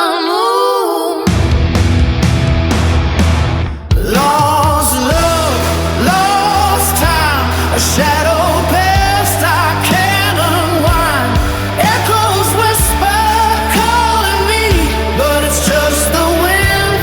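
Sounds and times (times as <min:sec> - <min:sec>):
person singing: 0:00.0 - 0:01.5, 0:03.9 - 0:17.0
rock band playing: 0:01.3 - 0:17.0
steady bass: 0:01.3 - 0:17.0.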